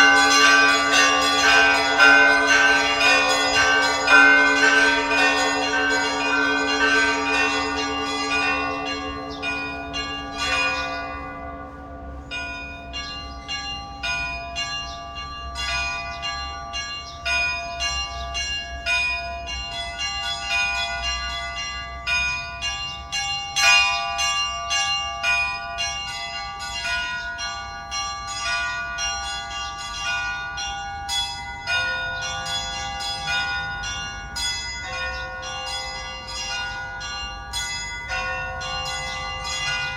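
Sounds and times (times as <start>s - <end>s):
church bells pealing: 0.0s - 39.9s
deep bell tone: 0.0s - 39.9s.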